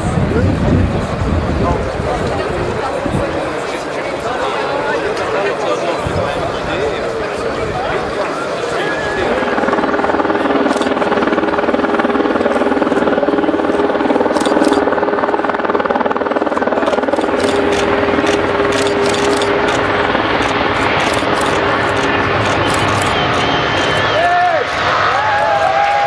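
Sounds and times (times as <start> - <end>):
jet engines roaring at takeoff: 0.0 - 26.0.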